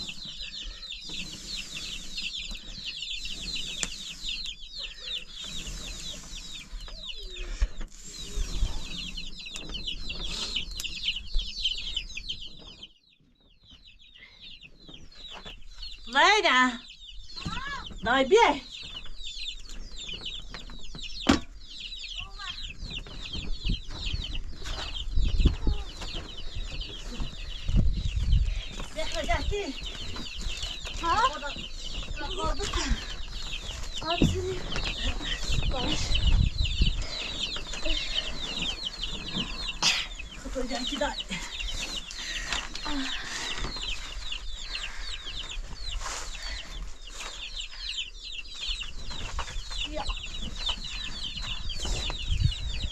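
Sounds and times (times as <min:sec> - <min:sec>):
small birds peeping: 0:00.0 - 0:52.9.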